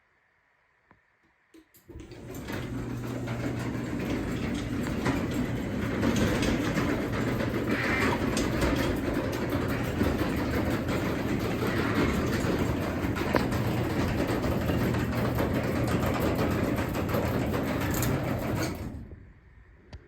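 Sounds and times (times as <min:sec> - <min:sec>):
garage door opener motor hum: 0:01.8 - 0:19.2
garage door rumbling rattle: 0:01.9 - 0:19.2.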